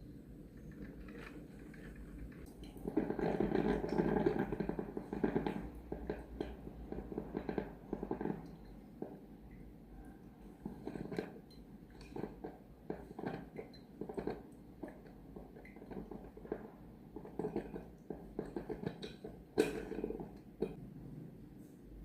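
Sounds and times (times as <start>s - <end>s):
coffee gear knocking and clattering: 0.5s - 9.3s, 10.6s - 20.8s.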